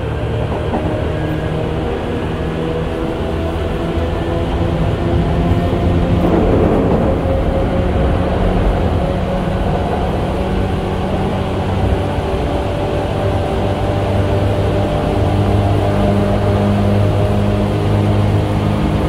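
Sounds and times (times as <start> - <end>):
wheel on rail rumble: 0.0 - 19.0.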